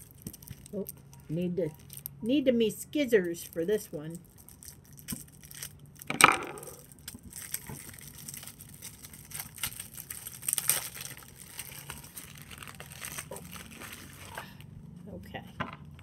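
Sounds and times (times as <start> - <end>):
plastic wrap cracking: 0.0 - 2.2, 3.4 - 14.7
plastic wrap crinkling: 0.0 - 2.3, 3.0 - 14.7.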